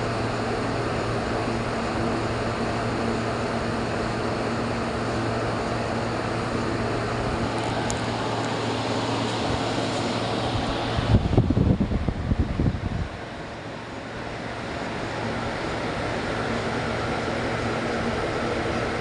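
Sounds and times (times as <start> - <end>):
refrigeration fan rush: 0.0 - 19.0.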